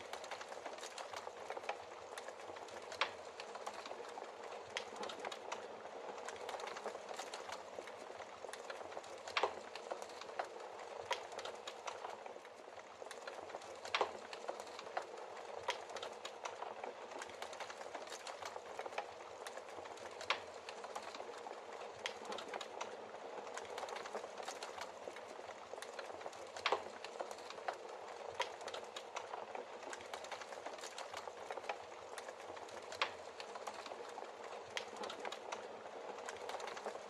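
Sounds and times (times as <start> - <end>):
fire hissing and crackling: 0.0 - 37.0.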